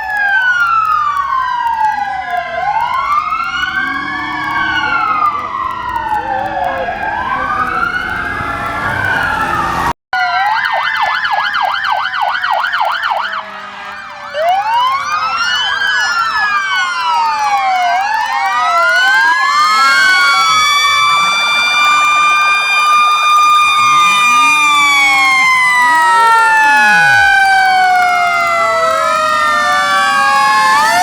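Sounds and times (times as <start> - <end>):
fast yelping siren: 0.0 - 31.0
fire truck sirens wailing: 0.0 - 31.0.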